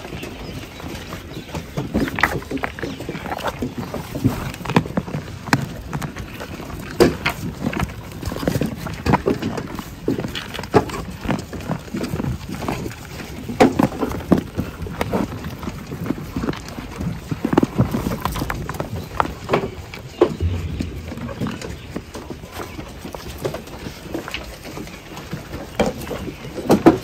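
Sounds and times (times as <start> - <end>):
sheep crunching feed: 0.0 - 27.0.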